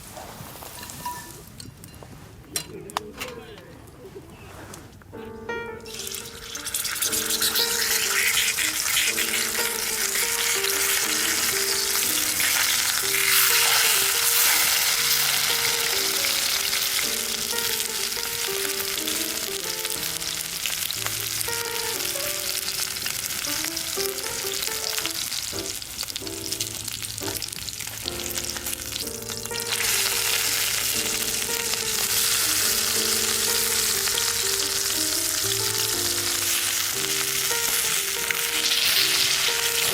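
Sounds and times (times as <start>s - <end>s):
light background music: 5.0s - 39.9s
food sizzling in a pan: 5.9s - 39.9s.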